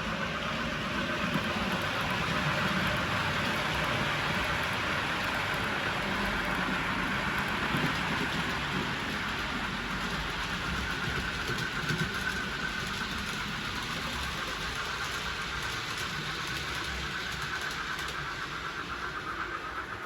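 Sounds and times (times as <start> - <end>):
rumbling rail noise: 0.0 - 20.0.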